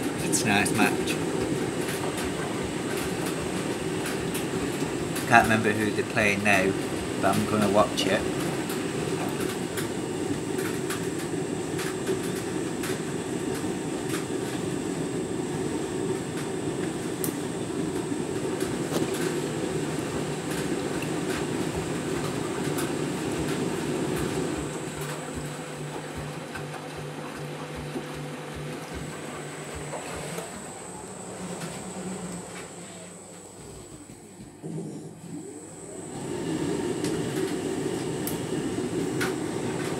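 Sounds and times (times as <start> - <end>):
washing machine drum sloshing: 0.0 - 35.2
washing machine low hum: 0.0 - 39.9.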